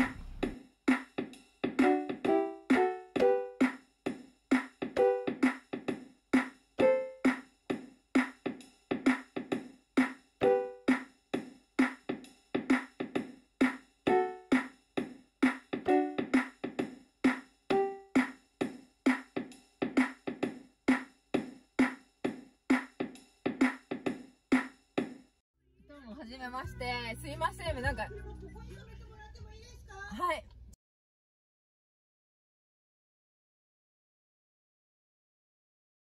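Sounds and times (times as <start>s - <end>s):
background music with quick beat: 0.0s - 25.4s, 26.2s - 30.4s.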